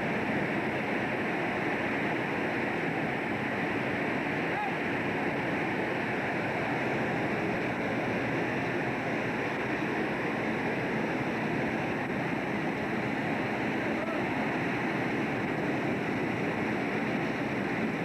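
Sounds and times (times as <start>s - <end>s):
rushing wind and sea on boat: 0.0s - 18.0s.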